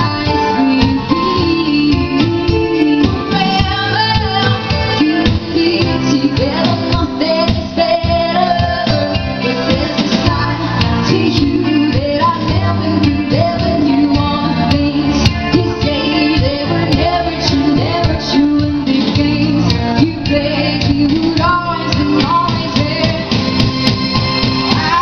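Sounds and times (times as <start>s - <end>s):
women singing: 0.0s - 23.6s, 24.6s - 25.0s
bass guitar: 0.0s - 25.0s
electric guitar: 0.0s - 25.0s
steady drum beat: 0.0s - 25.0s.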